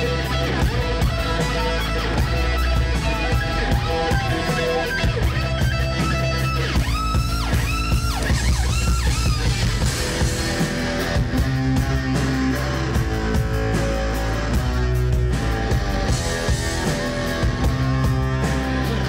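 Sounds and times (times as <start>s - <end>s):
electric guitar lead with bends: 0.0s - 19.0s
rock band playing: 0.0s - 19.0s.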